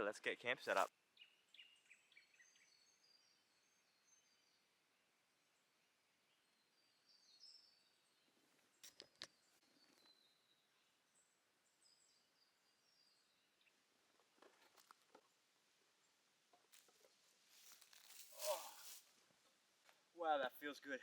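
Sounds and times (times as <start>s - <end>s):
faint bird chirps: 0.0s - 14.9s, 16.8s - 19.1s.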